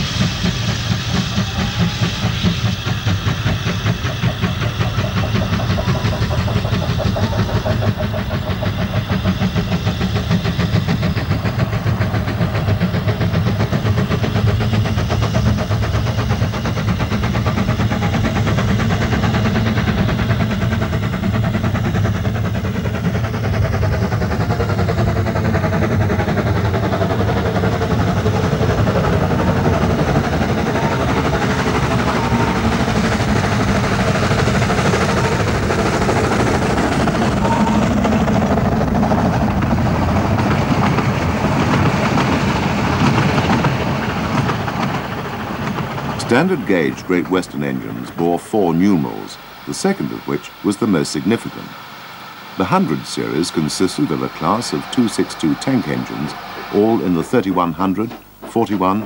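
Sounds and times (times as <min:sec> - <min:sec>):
steam locomotive exhaust beating: 0:00.0 - 0:59.0.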